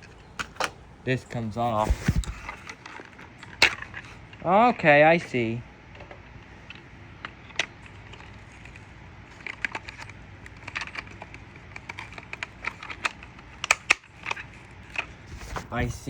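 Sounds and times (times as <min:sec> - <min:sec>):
hard plastic parts clicking: 0:00.0 - 0:16.0.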